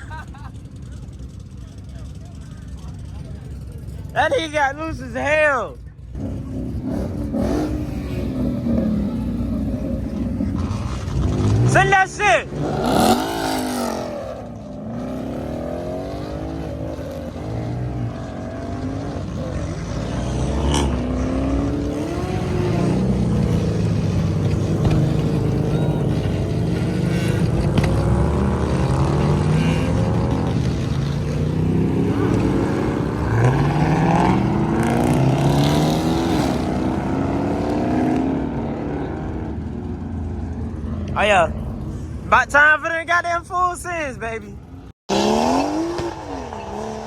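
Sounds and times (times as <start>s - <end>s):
car engines accelerating hard: 0.0s - 42.7s, 44.4s - 47.0s.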